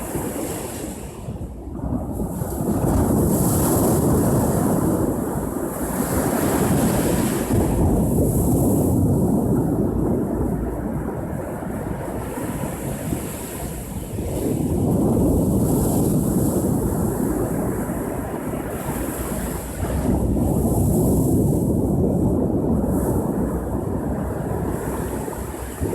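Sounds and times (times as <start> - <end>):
wind rumbling on microphone: 0.0 - 25.9.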